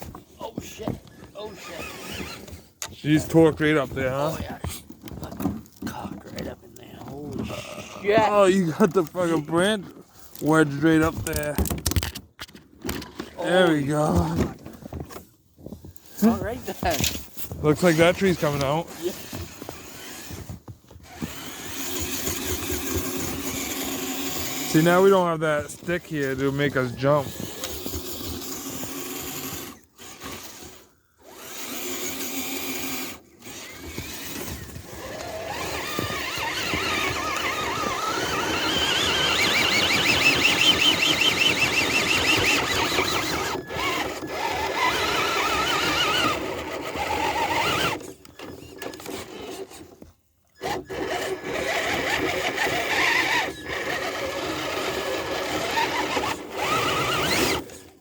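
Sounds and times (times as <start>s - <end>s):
toy truck electric motors whining: 1.4s - 14.6s, 16.3s - 58.0s.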